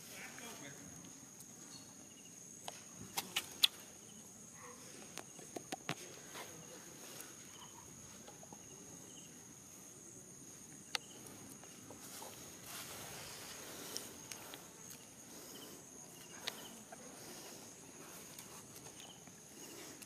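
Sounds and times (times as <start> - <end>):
crickets droning: 0.0 - 20.0.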